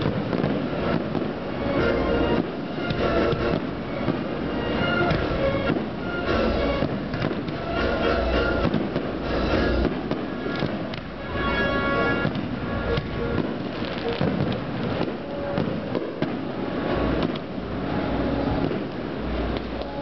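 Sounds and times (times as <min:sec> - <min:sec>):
firework crackling: 0:00.0 - 0:20.0
firework shells booming: 0:00.0 - 0:20.0.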